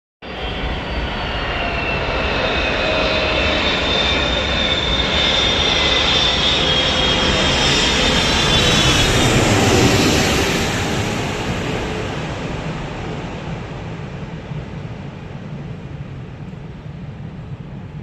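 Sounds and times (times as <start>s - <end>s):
jet engine roar with whine: 0.2s - 18.0s.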